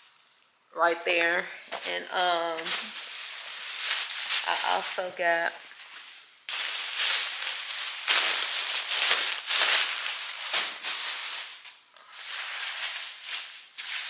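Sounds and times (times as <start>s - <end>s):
plastic bag crinkling and rustling: 0.0s - 0.6s, 1.2s - 14.0s.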